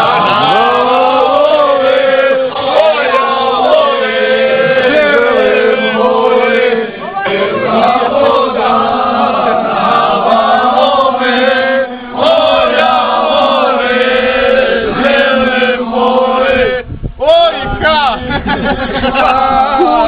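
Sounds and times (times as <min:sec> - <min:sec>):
men singing unaccompanied: 0:00.0 - 0:20.0.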